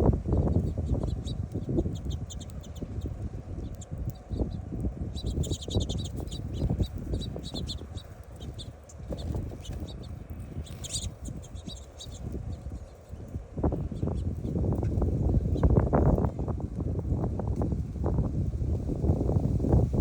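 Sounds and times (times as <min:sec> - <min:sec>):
birds chirping: 0:00.0 - 0:17.5.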